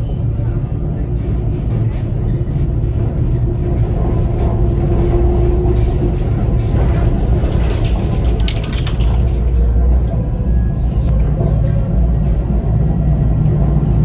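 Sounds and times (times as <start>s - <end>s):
tram rumble: 0.0s - 14.0s.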